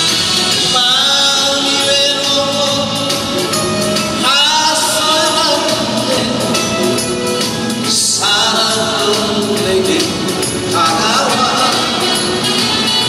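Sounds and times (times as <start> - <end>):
amplified band backing track: 0.0 - 13.0
man singing into a microphone: 0.5 - 12.5.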